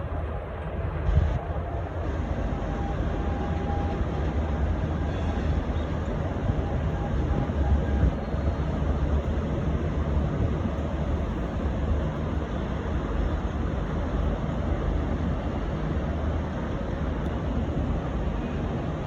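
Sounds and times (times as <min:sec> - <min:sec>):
diesel locomotive low rumble: 0:00.0 - 0:19.0.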